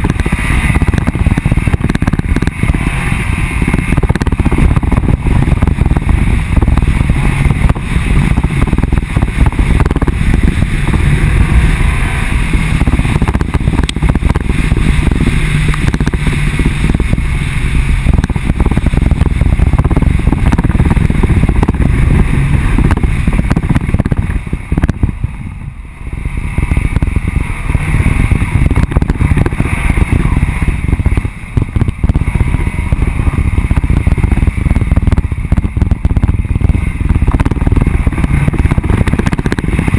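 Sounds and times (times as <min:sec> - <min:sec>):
vehicle engine rumble: 0:00.0 - 0:39.9
wind rush on microphone: 0:00.0 - 0:39.9.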